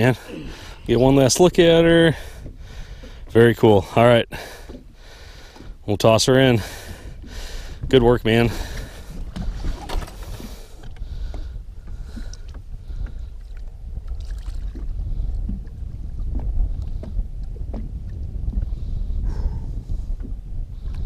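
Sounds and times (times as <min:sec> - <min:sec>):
water lapping against boat: 0:00.0 - 0:21.0
wind rumble on microphone: 0:00.0 - 0:21.0.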